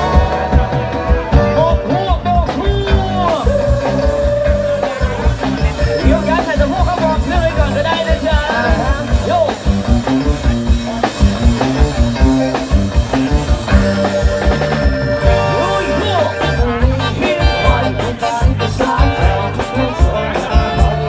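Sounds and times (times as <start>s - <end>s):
brass band playing: 0.0s - 21.0s
steady drum beat: 0.0s - 21.0s.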